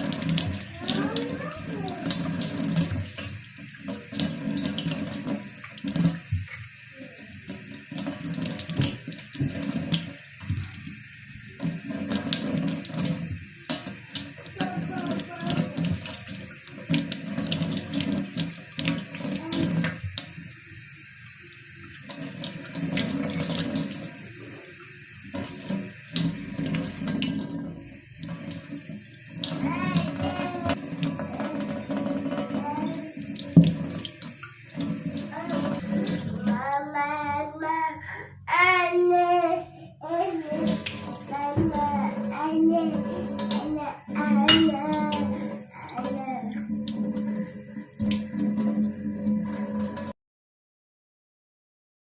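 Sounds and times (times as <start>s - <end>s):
tap water running into sink: 0.0s - 37.6s, 38.6s - 50.1s.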